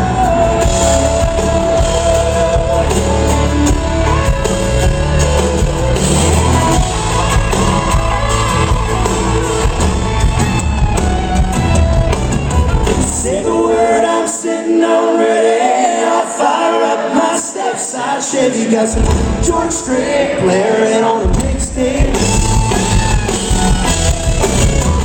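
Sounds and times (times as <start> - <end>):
live country band playing: 0.0 - 14.3, 18.9 - 25.0.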